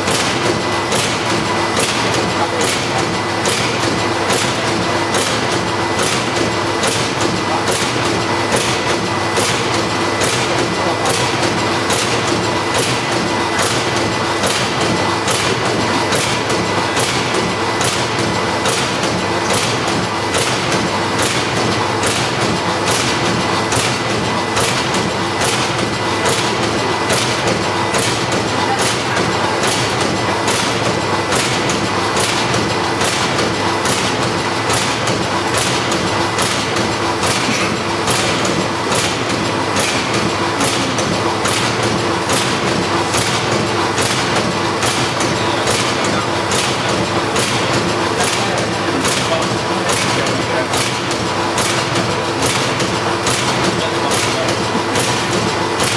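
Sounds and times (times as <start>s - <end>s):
packing machine clattering: 0.0s - 55.9s.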